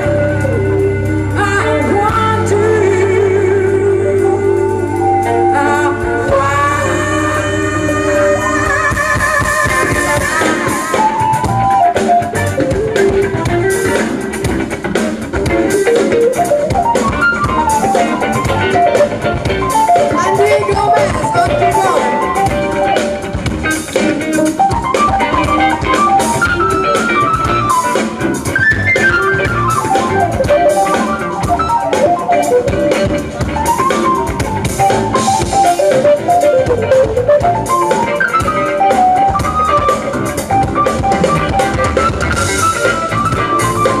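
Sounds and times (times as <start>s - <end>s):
drum kit: 0.0s - 44.0s
electric guitars: 0.0s - 44.0s
lead guitar quick runs: 5.2s - 44.0s.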